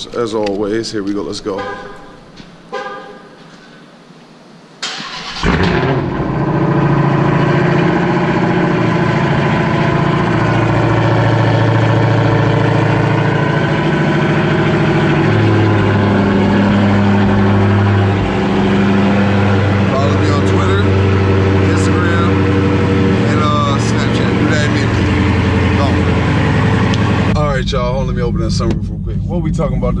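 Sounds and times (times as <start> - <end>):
car engine idling: 4.8 - 30.0.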